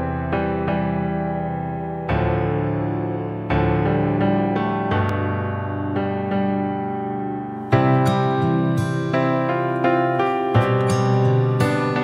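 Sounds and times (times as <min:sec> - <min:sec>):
keyboard playing held chords: 0:00.0 - 0:12.0.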